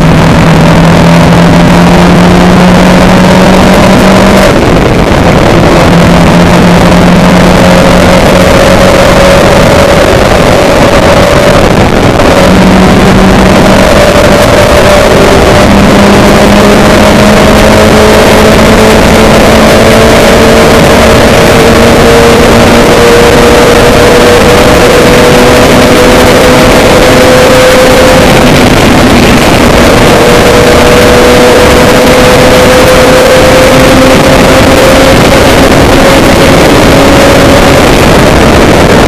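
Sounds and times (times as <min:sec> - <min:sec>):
moving vehicle rumble and hiss: 0:00.0 - 0:39.0.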